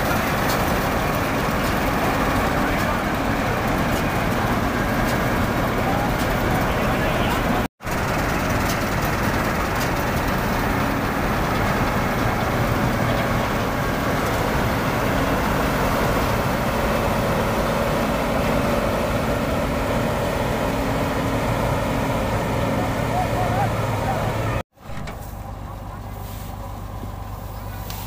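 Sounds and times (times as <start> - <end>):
diesel engine drone: 0.0 - 28.0
whir of threshing machinery: 0.0 - 28.0.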